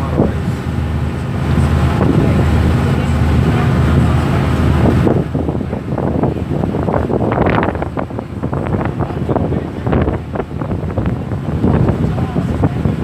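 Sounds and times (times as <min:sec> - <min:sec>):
boat engine humming: 0:00.0 - 0:13.0
wind on microphone: 0:00.0 - 0:13.0.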